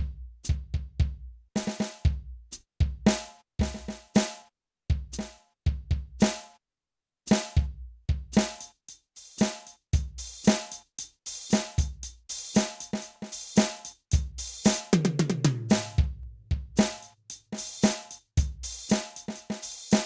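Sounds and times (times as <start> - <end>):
kick and snare drum groove: 0.0 - 6.6, 7.3 - 20.0.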